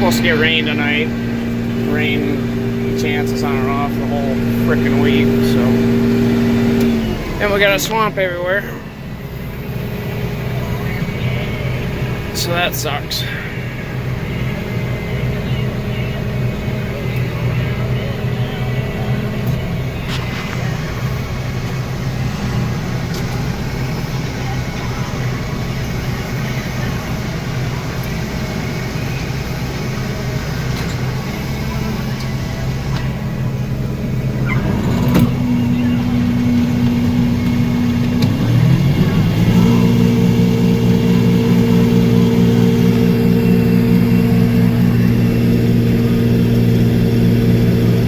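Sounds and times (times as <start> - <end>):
combine harvester engine running: 0.0 - 48.0
higher steady hum: 0.0 - 48.0.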